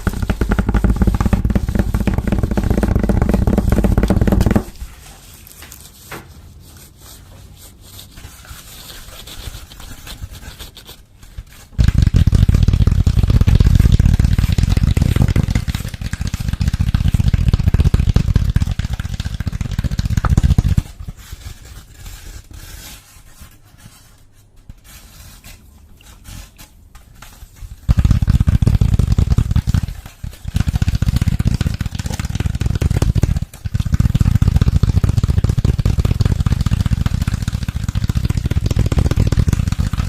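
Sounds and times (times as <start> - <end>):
scratching and rubbing: 0.0 - 40.0.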